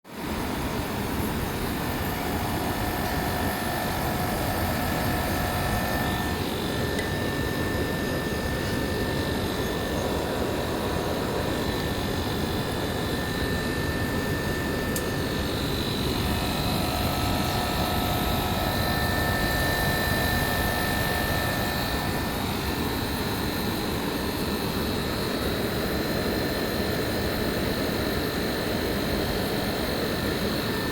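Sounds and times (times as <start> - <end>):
air conditioner fan and compressor: 0.0 - 30.9
faint whining tones: 0.7 - 25.7.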